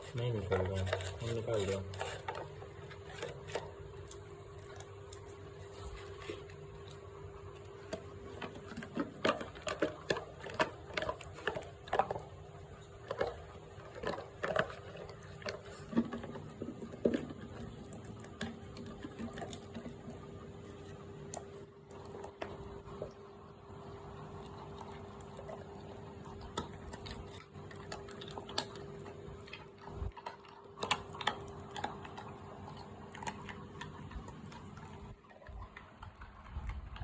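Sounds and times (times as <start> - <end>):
chewing with wet clicks: 0.1 - 37.0.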